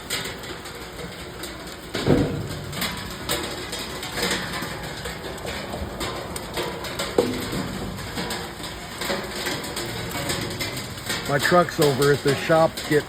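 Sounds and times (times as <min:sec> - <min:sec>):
heavy raindrops ticking: 0:00.0 - 0:13.0.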